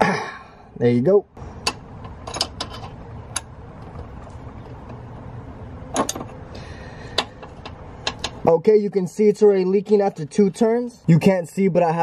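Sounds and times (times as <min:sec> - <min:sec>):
low steady rumble: 0:00.4 - 0:11.5.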